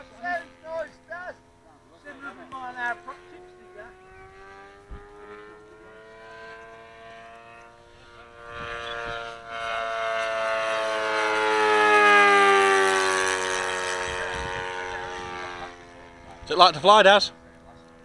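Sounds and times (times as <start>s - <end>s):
model aircraft engine flying past: 0.0s - 18.0s.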